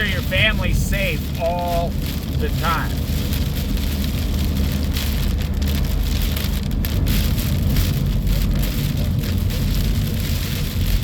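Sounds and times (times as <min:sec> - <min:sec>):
rain hitting a car: 0:00.0 - 0:11.0
road and engine rumble: 0:00.0 - 0:11.0.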